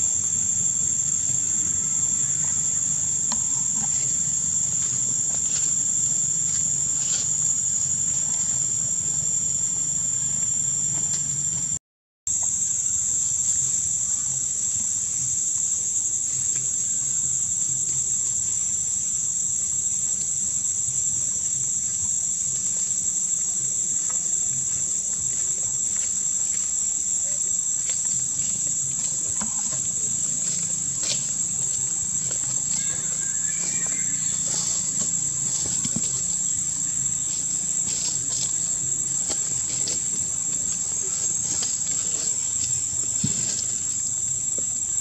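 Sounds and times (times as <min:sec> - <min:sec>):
insect chorus drone: 0:00.0 - 0:45.0.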